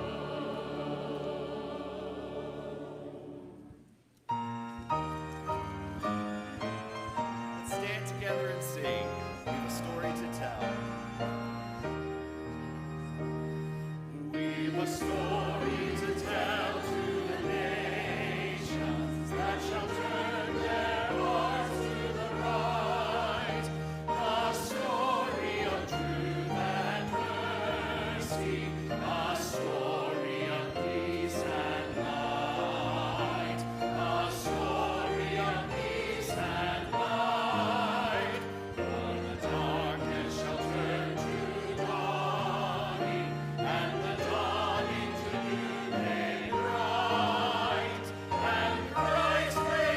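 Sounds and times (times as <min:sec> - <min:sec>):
choir singing with vibrato: 0:00.0 - 0:04.0, 0:14.0 - 0:49.9.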